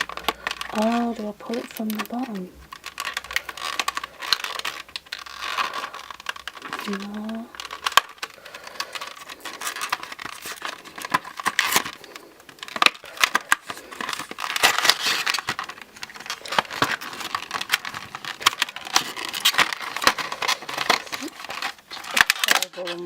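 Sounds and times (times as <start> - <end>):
packaging crinkling and rustling: 0.0 - 23.0
sharp clicks and crackles: 0.0 - 23.0.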